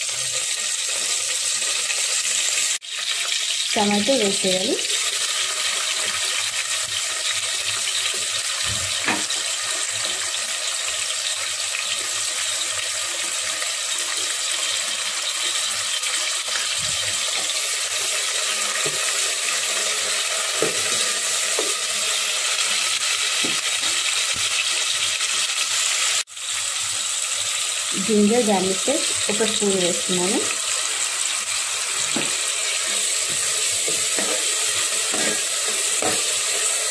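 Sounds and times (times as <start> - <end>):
vegetables sizzling in hot oil: 0.0 - 36.9.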